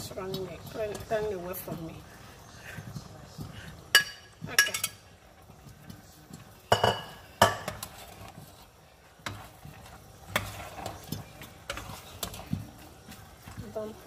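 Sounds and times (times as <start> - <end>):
faint sizzle: 0.0 - 14.0
utensil scraping a pan: 0.0 - 14.0.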